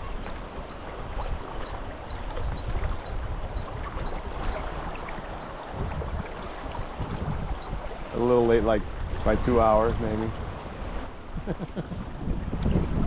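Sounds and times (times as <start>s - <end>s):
river water rushing: 0.0s - 11.4s
wind buffeting microphone: 0.0s - 13.0s.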